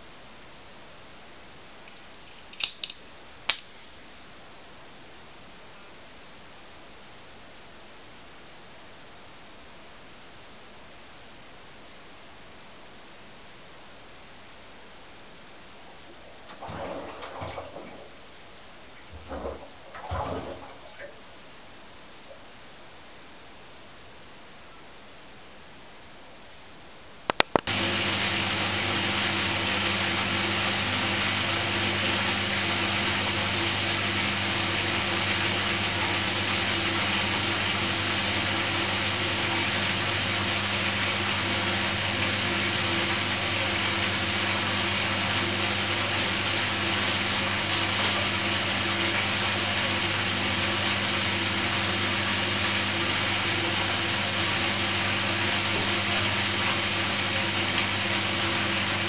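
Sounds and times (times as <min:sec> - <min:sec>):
washing machine hum with hiss: 0:00.0 - 0:59.0.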